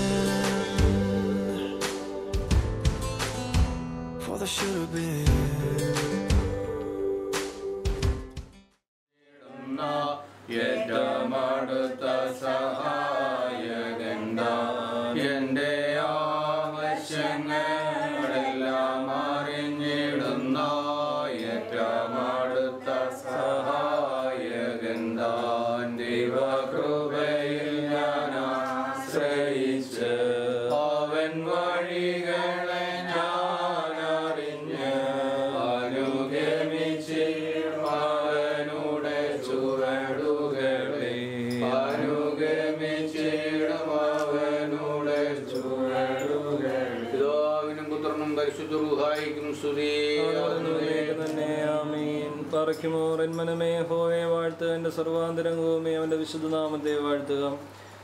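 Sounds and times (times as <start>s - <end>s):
voices chanting a hymn: 0.0s - 2.7s, 9.2s - 57.7s.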